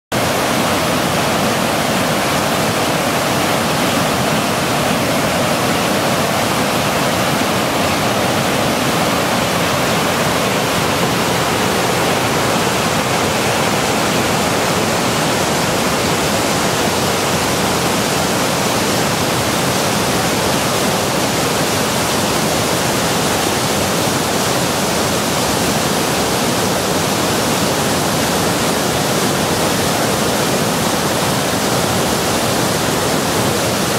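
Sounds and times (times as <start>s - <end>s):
whitewater rushing over rocks: 0.1s - 33.9s.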